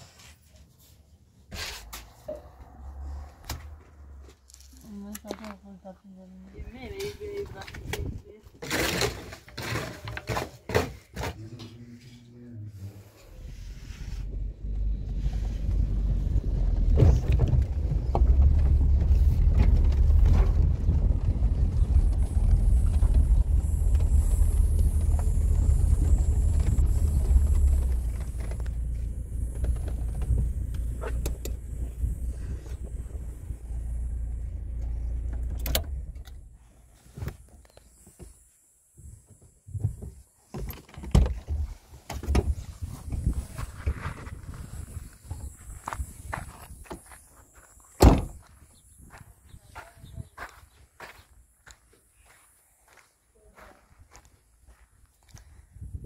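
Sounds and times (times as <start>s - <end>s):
vehicle engine rumble: 0.0s - 56.0s.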